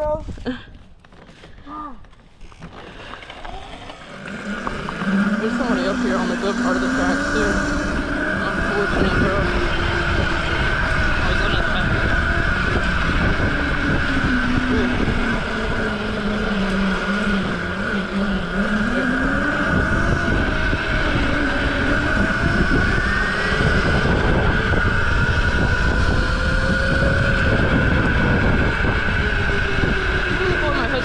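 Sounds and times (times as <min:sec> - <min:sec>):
mini bike engine running: 0:00.0 - 0:31.0.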